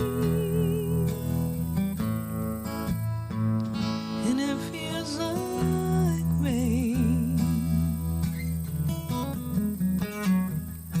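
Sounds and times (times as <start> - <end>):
acoustic guitar chord strums: 0.0 - 11.0
acoustic guitar picking: 0.0 - 11.0.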